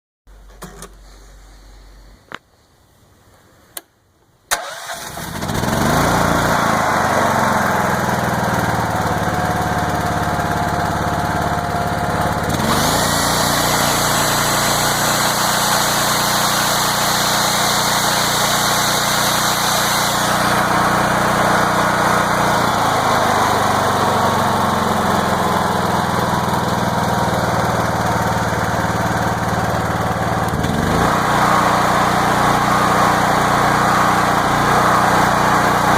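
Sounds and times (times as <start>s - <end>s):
generator engine running: 4.5s - 35.9s.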